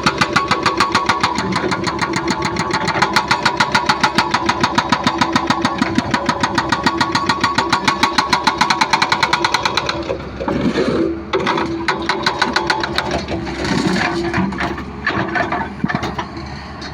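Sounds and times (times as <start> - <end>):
hydraulic breaker hammering concrete: 0.0 - 16.2.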